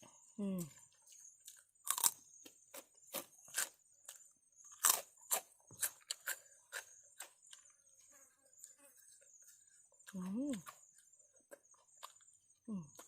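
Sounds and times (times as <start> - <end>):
chewing crunchy food: 0.6 - 13.0.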